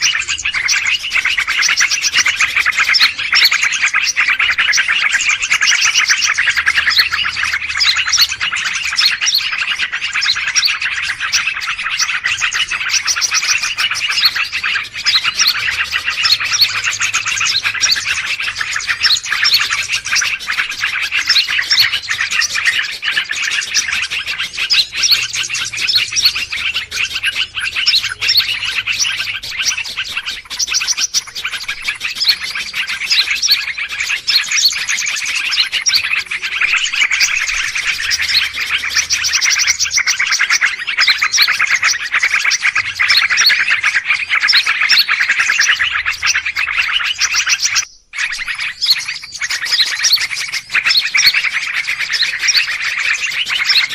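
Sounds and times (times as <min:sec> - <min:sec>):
chorus of small birds chirping: 0:00.0 - 0:53.9.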